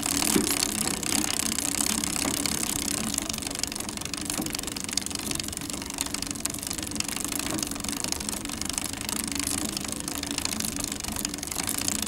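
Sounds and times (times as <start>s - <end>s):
bicycle chain ticking: 0.0s - 12.0s.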